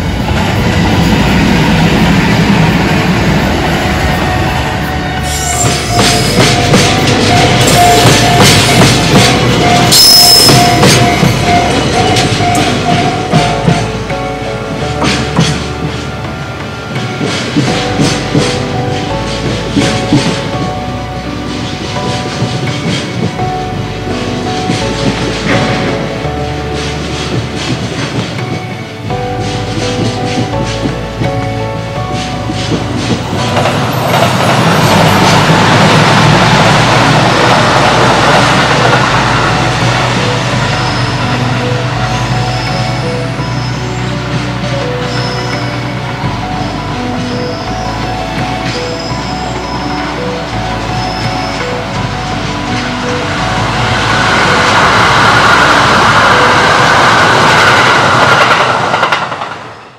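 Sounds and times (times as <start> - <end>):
electric train passing: 0.0 - 59.9.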